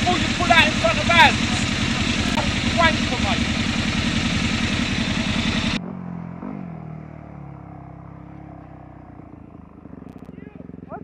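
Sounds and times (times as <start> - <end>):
dirt bike engine idling: 0.0 - 11.0
motorbike engine at speed: 0.0 - 11.0.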